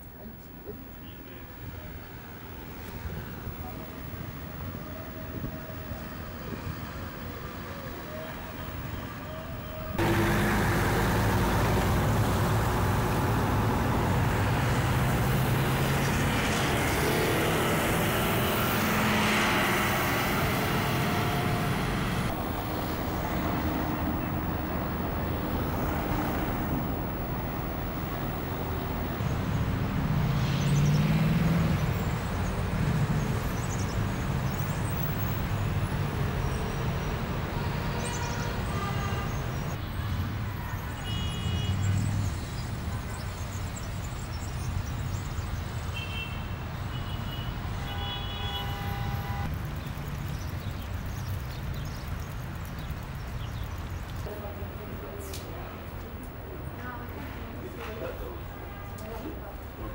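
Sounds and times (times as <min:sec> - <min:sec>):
city street traffic: 0:00.0 - 0:59.9
open-air ambience: 0:00.0 - 0:59.9.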